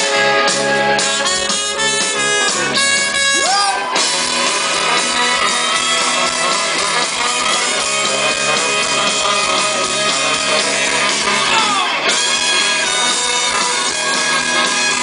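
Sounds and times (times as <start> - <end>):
bass guitar: 0.0 - 15.0
drum kit: 0.0 - 15.0
electric guitars: 0.0 - 15.0.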